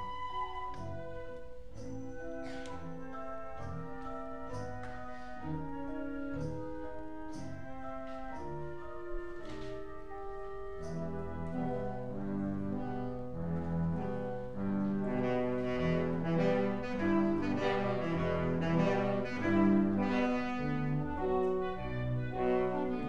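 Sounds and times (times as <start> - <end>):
string orchestra playing slowly: 0.0 - 23.0.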